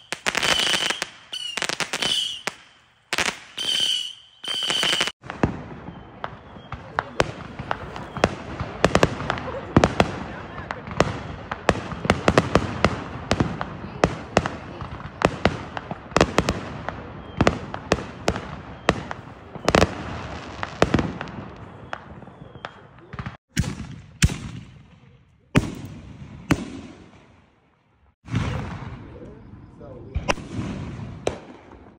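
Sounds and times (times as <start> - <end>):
fireworks crackling: 0.0 - 27.6.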